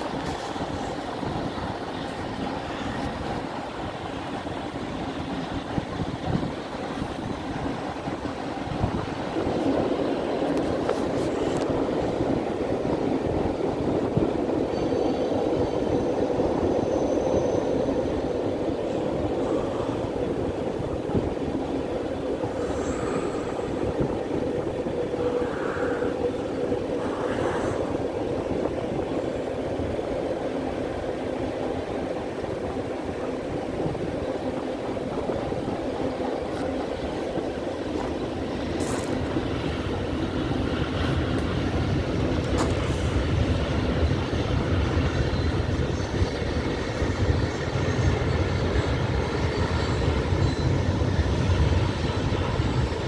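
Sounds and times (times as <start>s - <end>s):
steel train wheels rumbling on rails: 0.0s - 53.0s.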